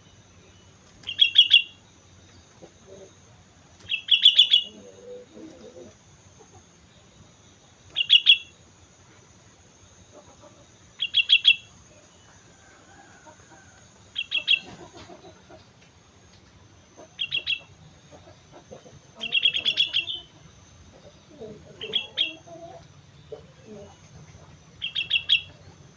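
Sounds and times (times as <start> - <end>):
bulbul singing: 0.0 - 15.6, 16.8 - 25.9.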